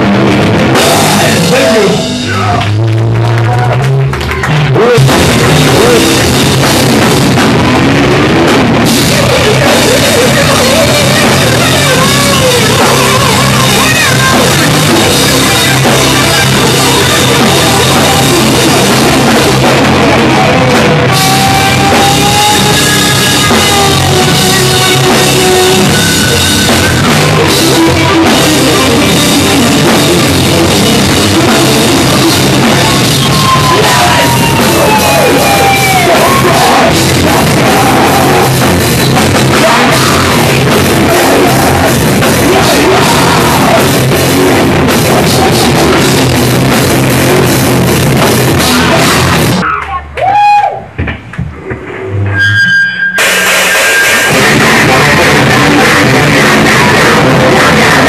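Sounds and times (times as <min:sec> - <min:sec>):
thrash metal band playing live: 0:00.0 - 0:49.6, 0:52.4 - 0:58.0
electric guitars: 0:00.0 - 0:50.5, 0:53.1 - 0:58.0
drum kit: 0:00.0 - 0:52.5, 0:53.1 - 0:58.0.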